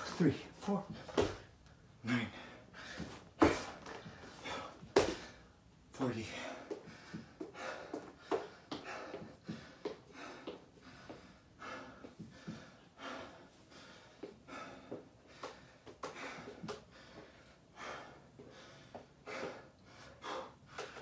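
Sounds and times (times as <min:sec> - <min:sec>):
man breathing hard: 0:02.1 - 0:21.0.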